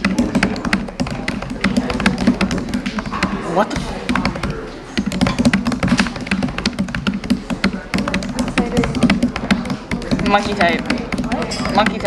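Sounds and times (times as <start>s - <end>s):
fast typing on laptop keyboard: 0.0s - 12.0s.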